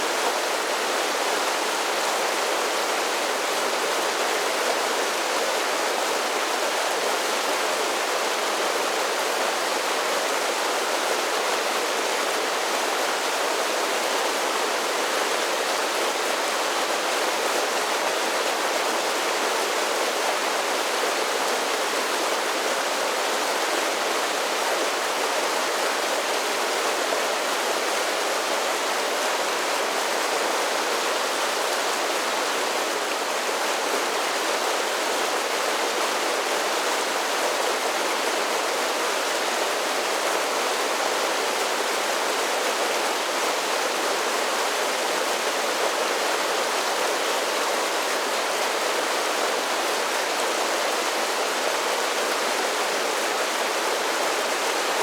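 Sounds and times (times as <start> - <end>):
creek water rushing over falls: 0.0 - 55.0.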